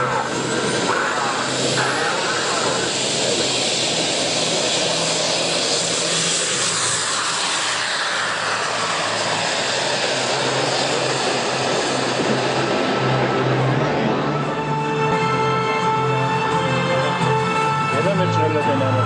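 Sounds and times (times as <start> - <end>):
model aircraft engine passing: 0.0 - 19.0.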